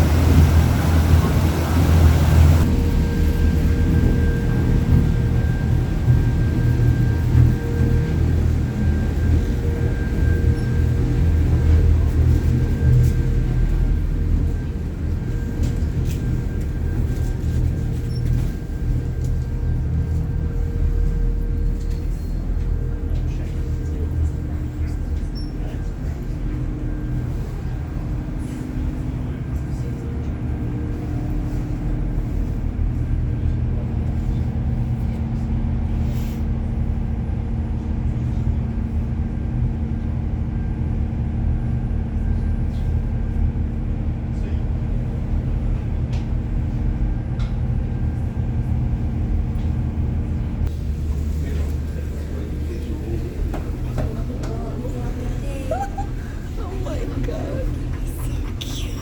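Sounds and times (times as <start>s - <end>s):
boat engine rumbling: 0.0s - 59.0s
faint constant hum: 0.0s - 59.0s.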